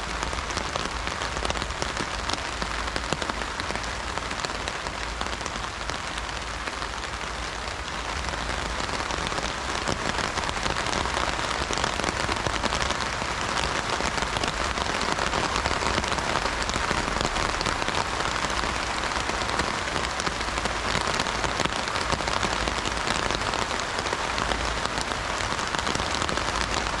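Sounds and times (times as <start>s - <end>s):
heavy rain on an umbrella: 0.0s - 27.0s.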